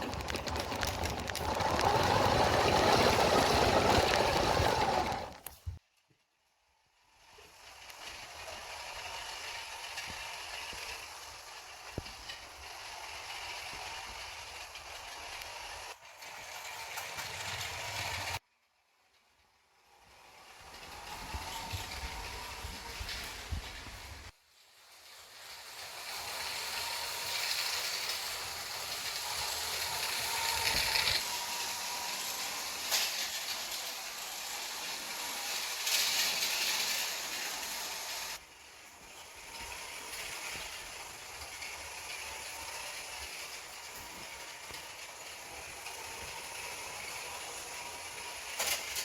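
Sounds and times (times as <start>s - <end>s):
toy train motor whirring: 0.0s - 5.5s, 7.0s - 18.4s, 19.2s - 49.0s.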